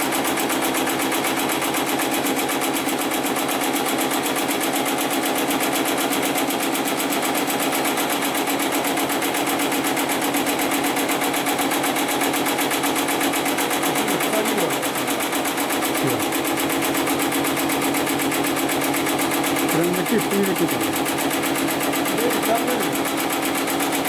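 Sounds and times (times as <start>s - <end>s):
sewing machine stitching: 0.0s - 24.0s.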